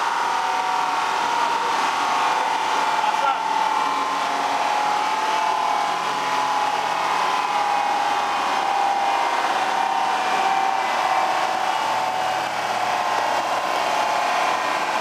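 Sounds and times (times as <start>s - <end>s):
mechanical rushing with whine: 0.0s - 15.0s.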